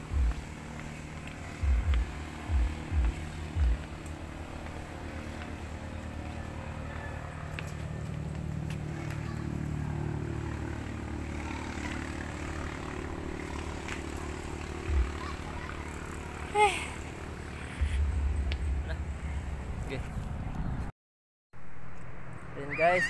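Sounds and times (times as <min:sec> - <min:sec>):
engine droning: 0:00.0 - 0:20.9.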